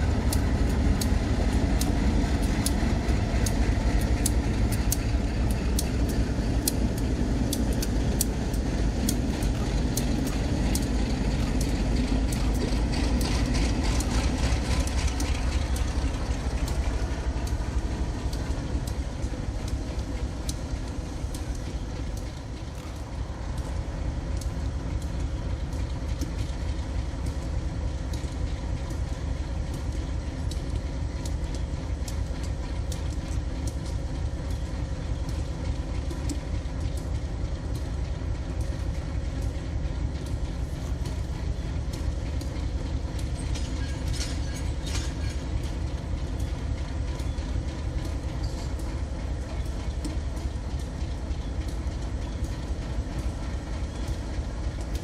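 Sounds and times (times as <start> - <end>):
freight train rumbling past: 0.0 - 55.0
wheel clicks over rail joints: 0.0 - 55.0.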